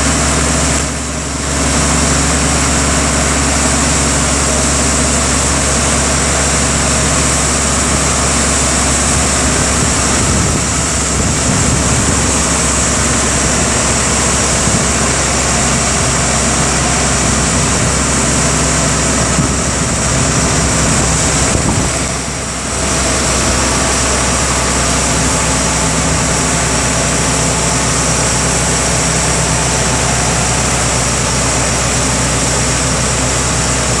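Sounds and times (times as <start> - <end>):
truck engine drone: 0.0 - 34.0.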